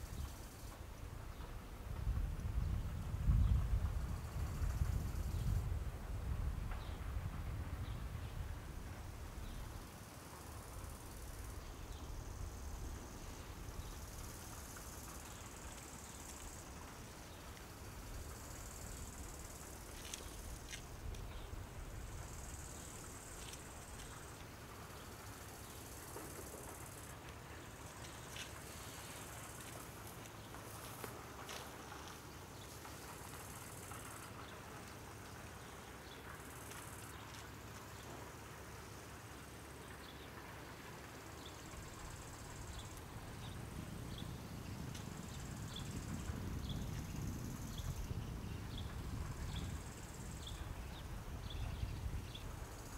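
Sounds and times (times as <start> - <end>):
distant diesel railbus rumble: 0.0 - 52.9
insects chirring: 3.4 - 5.7, 9.3 - 52.9.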